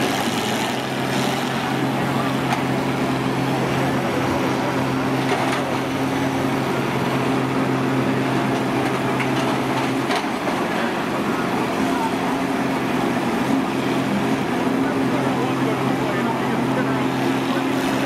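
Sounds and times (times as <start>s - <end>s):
combine engines droning: 0.0s - 18.0s
crowd chatter: 0.0s - 18.0s.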